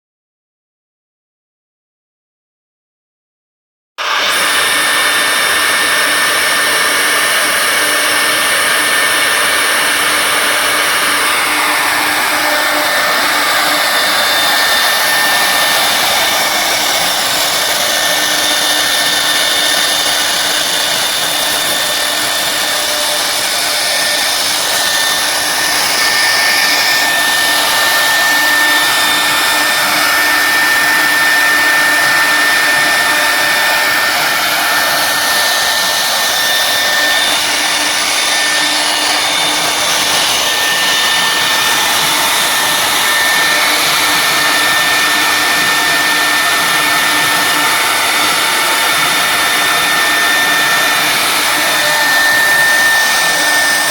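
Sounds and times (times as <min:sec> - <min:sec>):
router spindles whining: 0:04.0 - 0:53.9.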